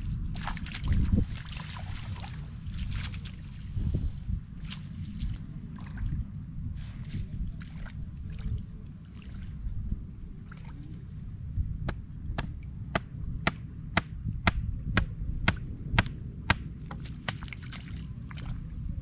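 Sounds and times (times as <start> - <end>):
floodwater rumbling: 0.0 - 19.0
wind: 0.0 - 19.0.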